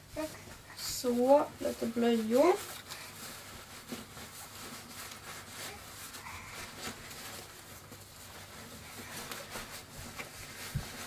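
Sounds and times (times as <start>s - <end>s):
nappies rustling in a bag: 0.0s - 11.0s.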